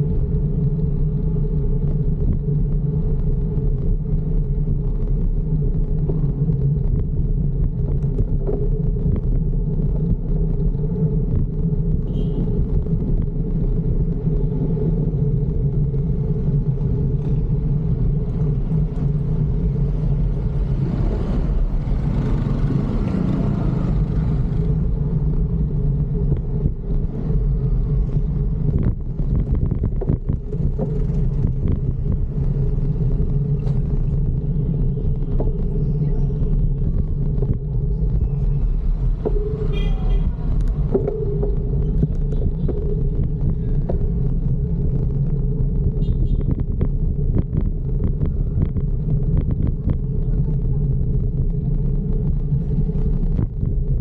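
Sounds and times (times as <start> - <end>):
road and wind rumble: 0.0 - 54.0
rush of noise: 0.0 - 54.0.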